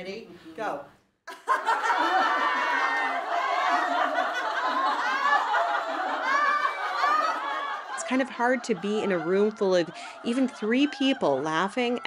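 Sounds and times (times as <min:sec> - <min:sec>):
group laughing together: 0:01.3 - 0:12.0.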